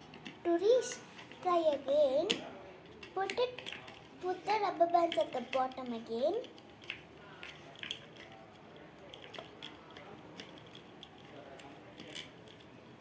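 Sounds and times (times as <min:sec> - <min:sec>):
faint clicks and taps on wooden toy: 0:00.0 - 0:12.7.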